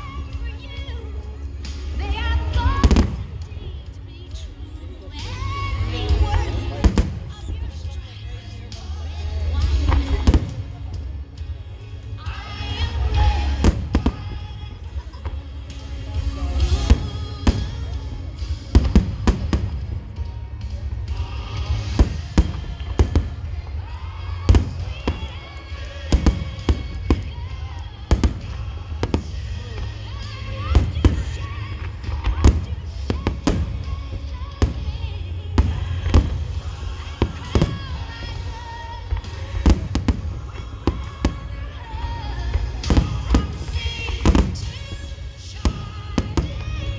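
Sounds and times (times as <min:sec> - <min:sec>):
fireworks bursting in sharp bangs: 0:00.0 - 0:46.9
low rumble: 0:00.0 - 0:46.9
music from loudspeakers: 0:00.0 - 0:46.9.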